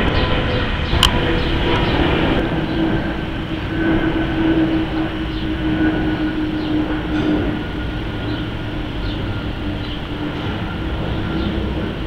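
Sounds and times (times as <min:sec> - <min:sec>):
high engine whine: 0:00.0 - 0:12.0
jet airliner engine noise: 0:00.0 - 0:12.0.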